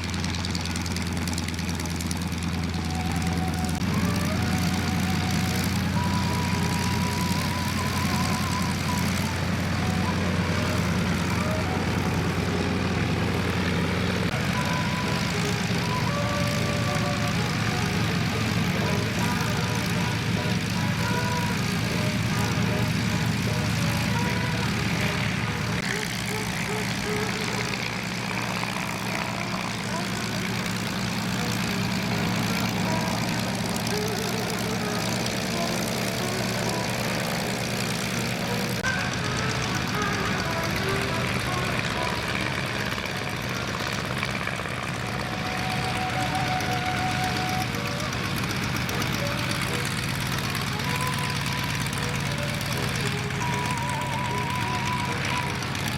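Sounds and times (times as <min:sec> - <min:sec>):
propeller aircraft droning: 0:00.0 - 0:55.9.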